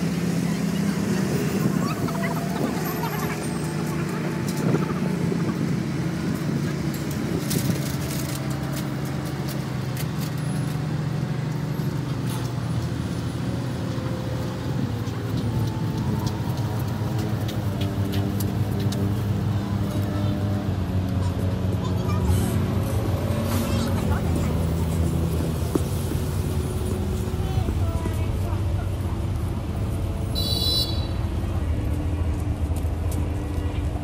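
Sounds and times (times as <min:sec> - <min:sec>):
city street traffic: 0:00.0 - 0:34.0.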